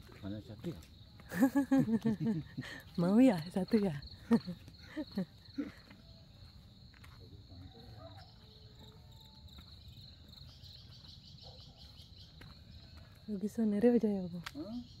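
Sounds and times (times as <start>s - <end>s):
insects trilling: 0.1s - 15.0s.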